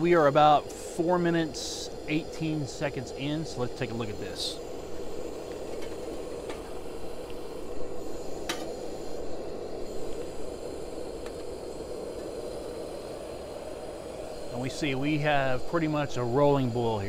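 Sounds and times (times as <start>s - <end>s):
gas burner hissing: 0.0s - 17.0s
water boiling in pot: 0.0s - 17.0s.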